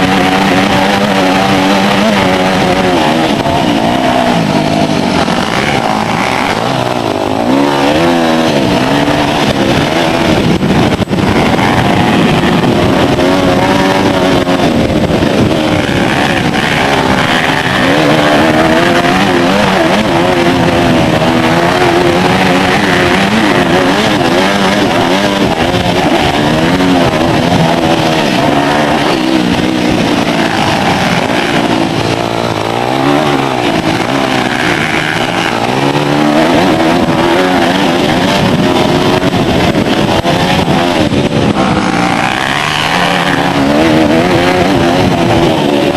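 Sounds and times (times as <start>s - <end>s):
motocross bike engine racing: 0.0s - 45.9s.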